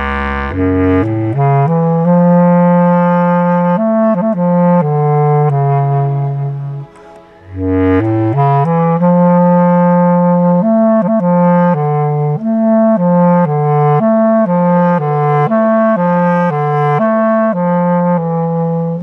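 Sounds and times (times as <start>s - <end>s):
bass clarinet solo melody: 0.0s - 19.0s.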